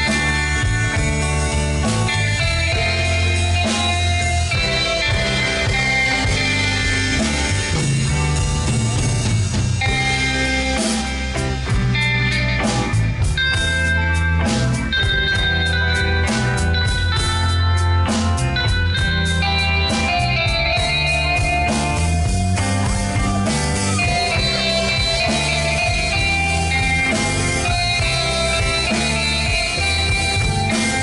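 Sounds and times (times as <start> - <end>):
bass guitar: 0.0 - 31.0
drum kit: 0.0 - 31.0
electric guitars: 0.0 - 31.0.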